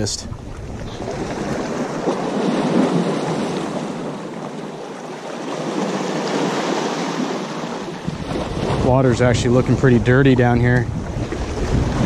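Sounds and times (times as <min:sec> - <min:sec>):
waves sloshing against rocks: 0:00.0 - 0:12.0.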